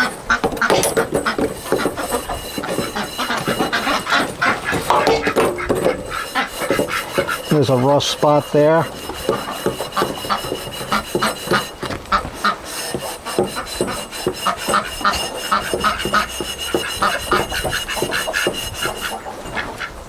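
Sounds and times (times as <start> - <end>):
scouring pad scrubbing steel blade: 0.0 - 19.5.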